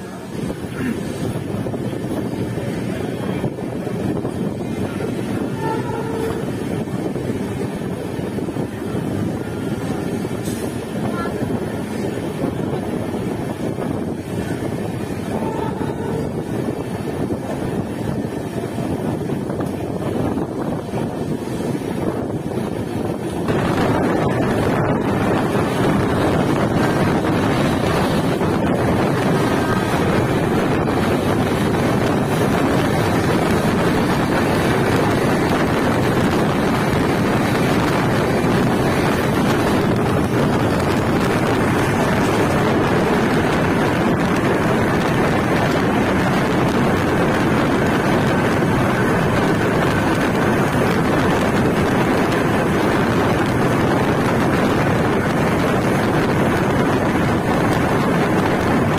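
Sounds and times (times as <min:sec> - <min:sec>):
train wheels on rails: 0:00.0 - 0:58.9
wind buffeting microphone: 0:00.0 - 0:58.9.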